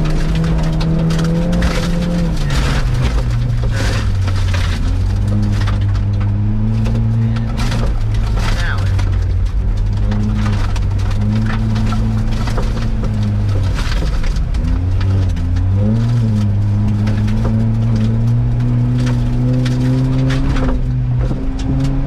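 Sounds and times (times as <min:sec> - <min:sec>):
car engine from inside cabin: 0:00.0 - 0:22.0
stones and spray hitting car: 0:00.0 - 0:22.0
tyres on wet gravel and slush: 0:00.0 - 0:22.0.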